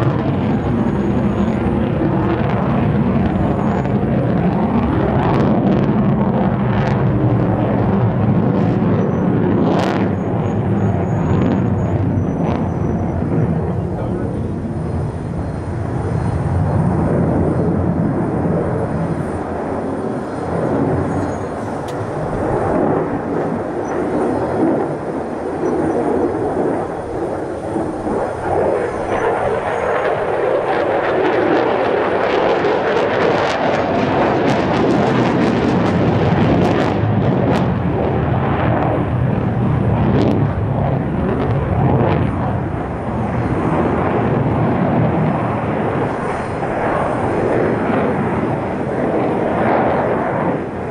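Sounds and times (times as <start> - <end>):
jet engine crackling: 0.0 - 50.9
jet engine roar: 0.0 - 50.9.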